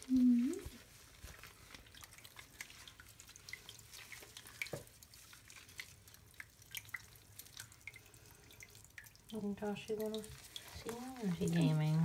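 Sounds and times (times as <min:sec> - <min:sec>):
water dripping into sink: 0:00.0 - 0:12.0.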